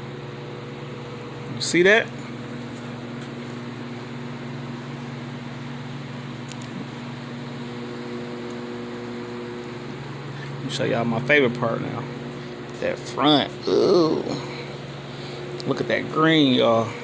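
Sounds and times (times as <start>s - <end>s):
fan motor humming: 0.0s - 17.0s.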